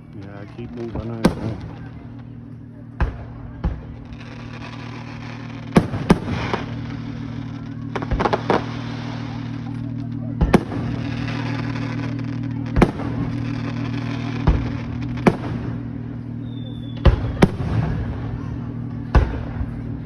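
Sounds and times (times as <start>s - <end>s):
fireworks booming: 0.0s - 20.0s
fireworks crackling: 0.0s - 20.0s
steady low hum: 0.0s - 20.0s.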